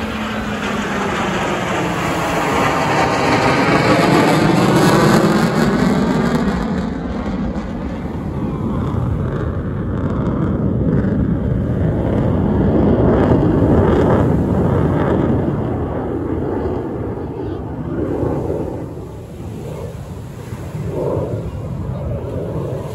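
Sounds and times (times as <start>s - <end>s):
fighter jet roar flying past: 0.0s - 22.9s.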